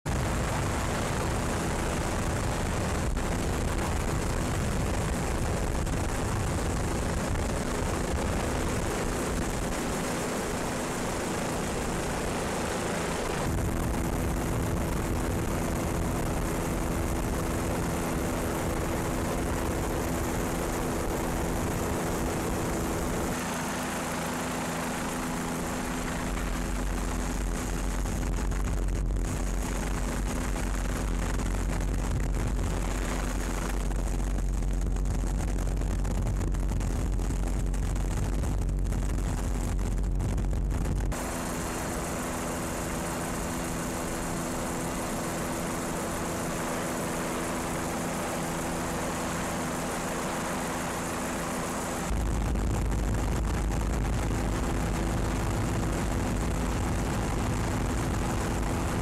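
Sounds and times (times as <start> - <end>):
aircraft engine drone: 0.1 - 59.0.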